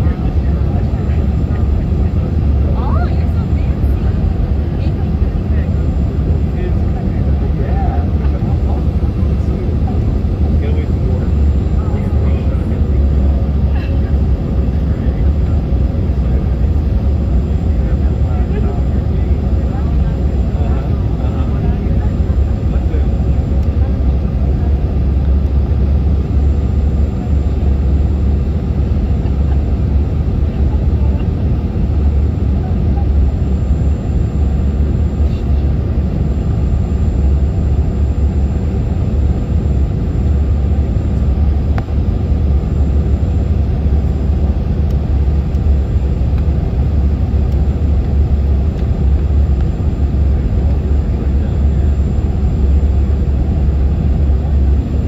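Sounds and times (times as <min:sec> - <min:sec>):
airliner cabin roar: 0:00.0 - 0:55.0
faint high whine: 0:04.8 - 0:55.0.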